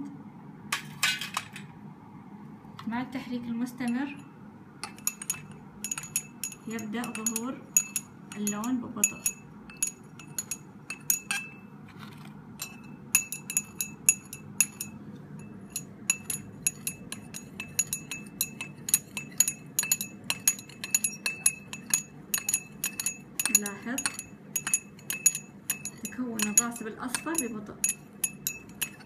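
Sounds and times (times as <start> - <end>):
glass rod clinking in beaker: 3.9 - 11.7, 12.6 - 29.0.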